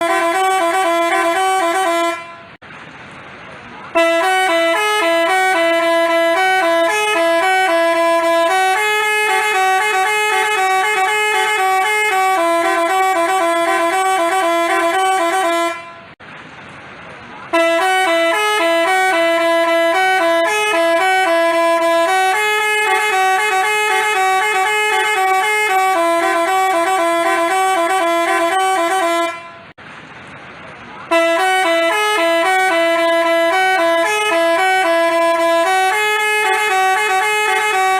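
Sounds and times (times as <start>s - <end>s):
bus horn playing a melody: 0.0s - 2.6s, 3.9s - 16.2s, 17.5s - 29.8s, 31.1s - 37.9s.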